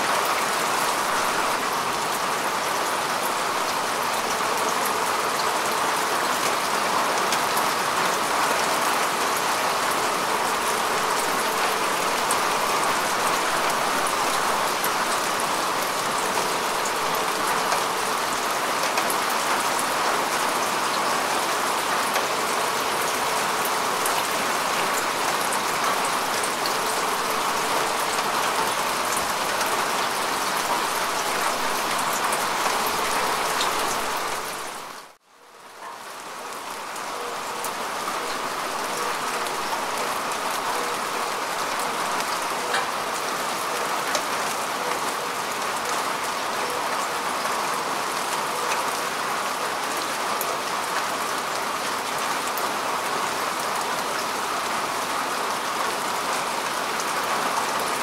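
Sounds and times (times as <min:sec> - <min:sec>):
rain falling on grass: 0:00.0 - 0:58.0.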